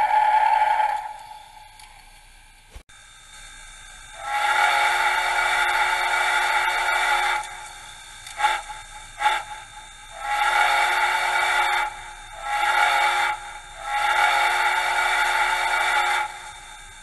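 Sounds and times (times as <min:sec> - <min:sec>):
steam whistle through small speaker: 0:00.0 - 0:01.8, 0:04.1 - 0:16.8.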